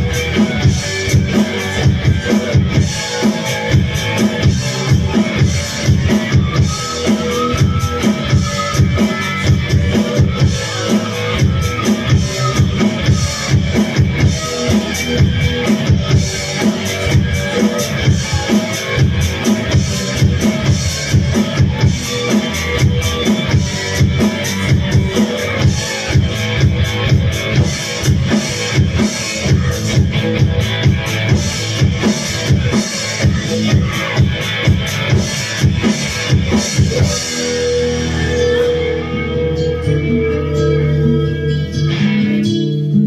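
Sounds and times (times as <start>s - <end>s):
electronic drum beat: 0.0s - 39.1s
electric guitar: 0.0s - 43.0s.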